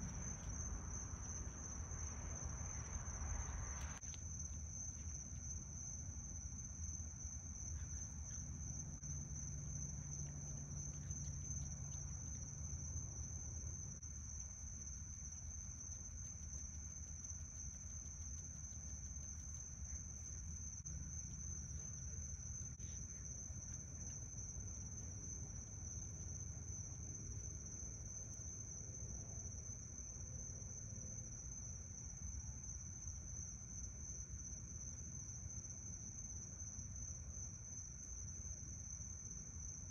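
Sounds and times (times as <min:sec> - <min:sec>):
crickets trilling: 0:00.0 - 0:39.9
low steady hum: 0:00.0 - 0:39.9.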